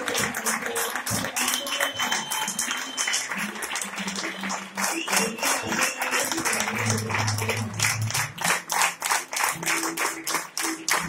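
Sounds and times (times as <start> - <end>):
audience clapping in rhythm: 0.0 - 11.0
background music with low notes: 0.0 - 11.0.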